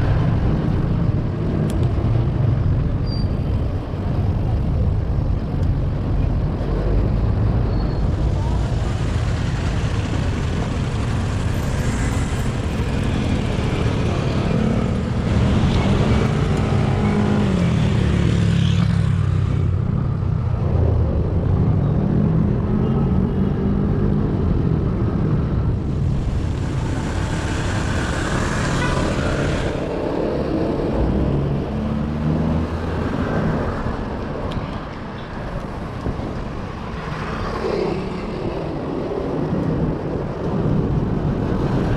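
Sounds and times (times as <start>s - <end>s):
vehicle engines passing: 0.0s - 41.9s
wind rumble on microphone: 0.0s - 41.9s.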